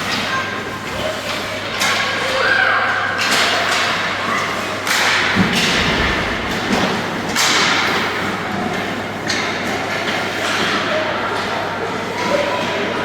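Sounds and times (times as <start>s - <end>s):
background hubbub: 0.0s - 13.0s.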